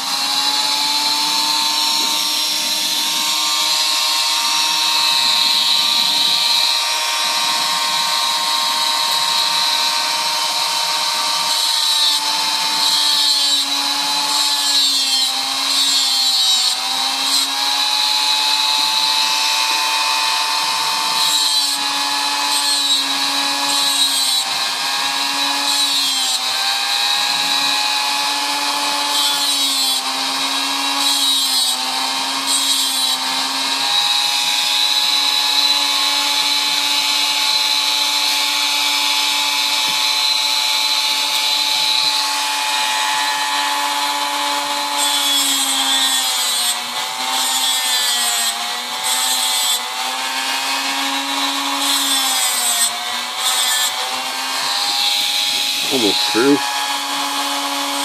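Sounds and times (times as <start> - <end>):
rotary tool grinding metal: 0.0 - 58.0.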